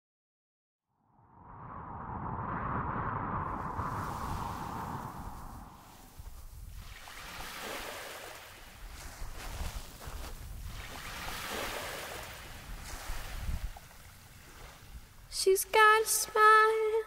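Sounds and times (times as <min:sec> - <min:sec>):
wind rumbling on microphone: 0:01.0 - 0:15.4
sea waves washing ashore: 0:02.5 - 0:17.0.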